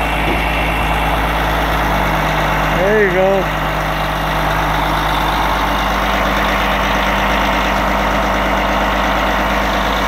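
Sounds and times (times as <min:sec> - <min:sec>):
heavy machine engine running: 0:00.0 - 0:10.0.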